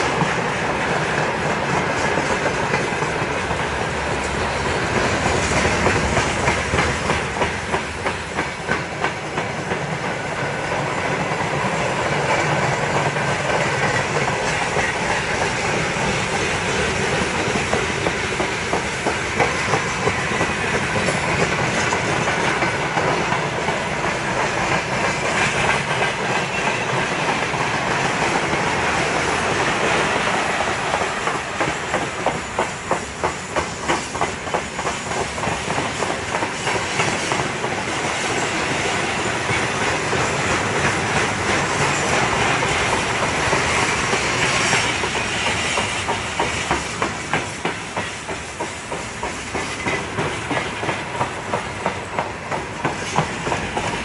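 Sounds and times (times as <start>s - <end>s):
wheels clacking over rail joints: 0.0s - 54.0s.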